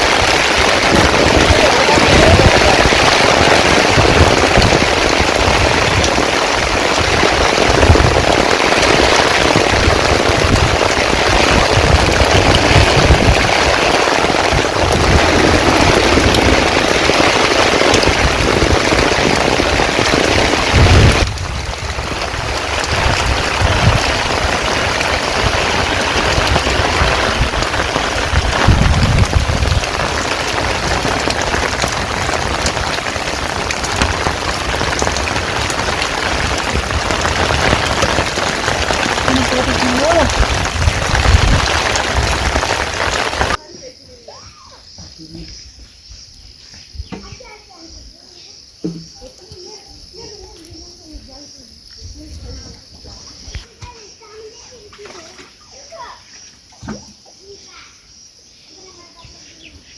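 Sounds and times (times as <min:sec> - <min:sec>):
heavy rain: 0:00.0 - 0:43.7, 0:49.1 - 0:54.8.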